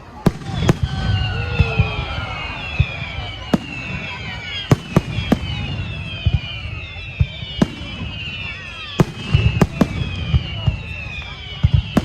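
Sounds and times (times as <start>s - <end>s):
fireworks bangs: 0.0s - 12.0s
fireworks whistling: 0.0s - 12.0s.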